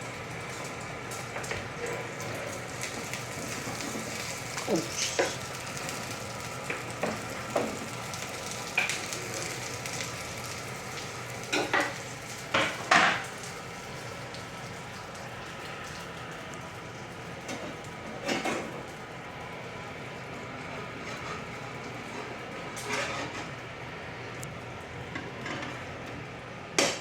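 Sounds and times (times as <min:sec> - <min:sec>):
food sizzling in a frying pan: 0:00.0 - 0:23.9.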